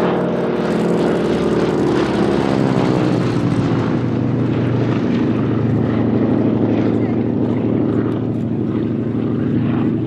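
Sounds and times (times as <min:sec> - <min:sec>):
propeller plane fly-by: 0:00.0 - 0:10.0.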